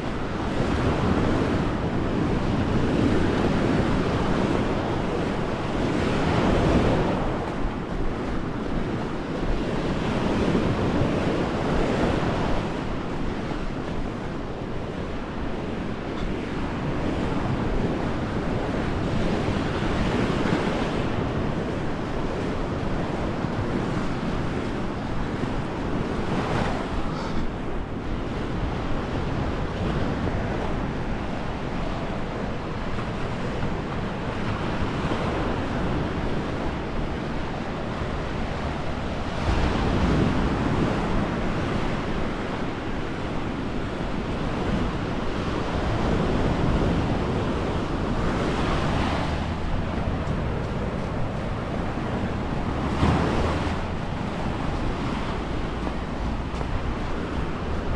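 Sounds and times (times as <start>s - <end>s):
sea waves washing onto beach: 0.0s - 57.9s
wind buffeting microphone: 0.0s - 57.9s.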